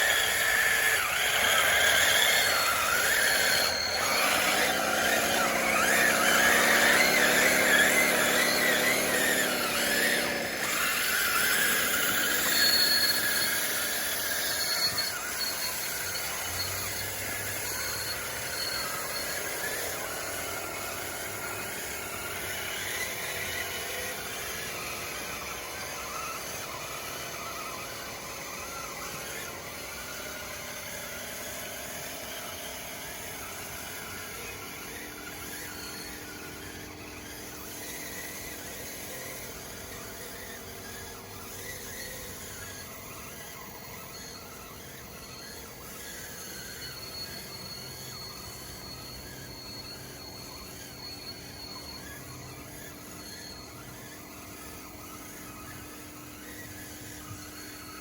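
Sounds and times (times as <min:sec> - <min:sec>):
toy bulldozer drive whine: 0:00.0 - 0:58.0.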